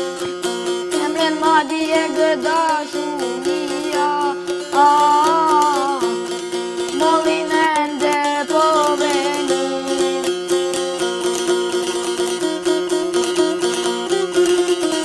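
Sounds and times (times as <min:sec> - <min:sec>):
boy singing folk song: 0:00.0 - 0:15.0
lute strummed with drone: 0:00.0 - 0:15.0.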